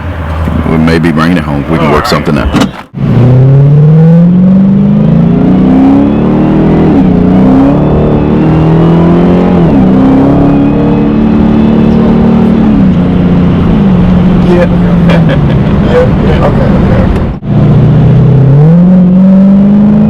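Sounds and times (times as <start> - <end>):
car engine accelerating hard: 0.0 - 20.0
supercharger whine: 0.0 - 20.0.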